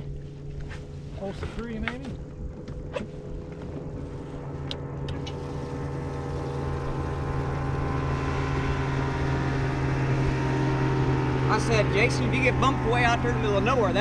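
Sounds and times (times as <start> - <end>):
motorboat engine humming: 0.0 - 14.0.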